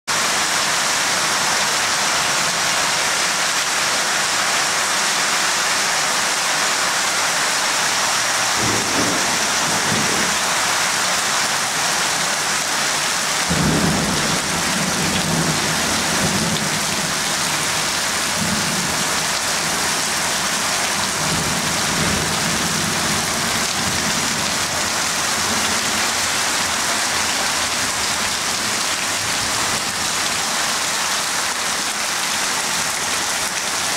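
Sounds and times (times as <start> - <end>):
hail and heavy rain pelting: 0.2 - 33.9.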